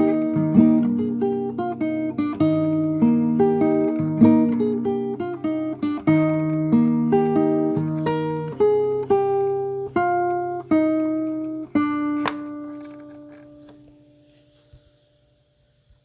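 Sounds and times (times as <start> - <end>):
acoustic guitar strummed chords: 0.0 - 14.7.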